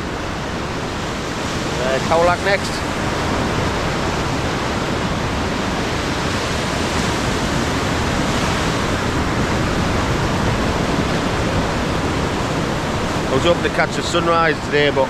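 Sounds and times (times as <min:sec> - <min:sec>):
sea surf rushing: 0:00.0 - 0:15.0
wind: 0:00.0 - 0:15.0.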